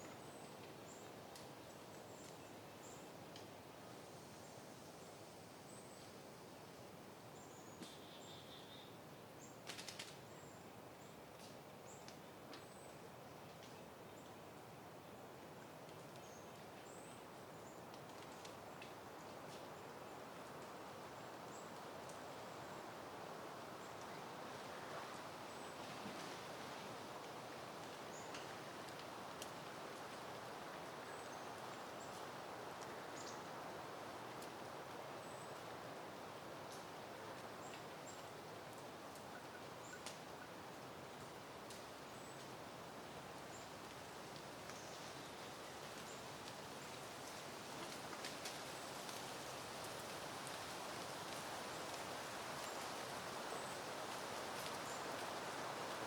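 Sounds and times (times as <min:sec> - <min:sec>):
soft wind: 0:00.0 - 0:56.0.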